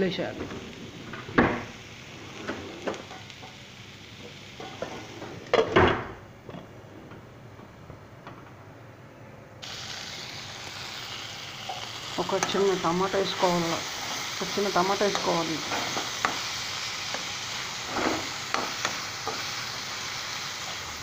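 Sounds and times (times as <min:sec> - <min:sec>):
cabbage sizzling in pan: 0:00.0 - 0:05.5, 0:09.6 - 0:21.0.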